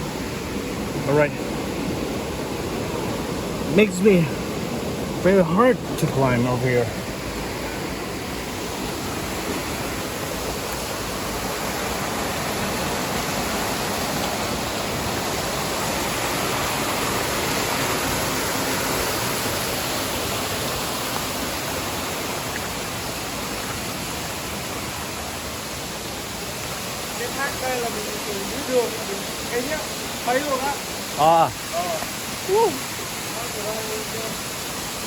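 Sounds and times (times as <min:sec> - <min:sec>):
waterfall crashing onto rocks: 0:00.0 - 0:35.0.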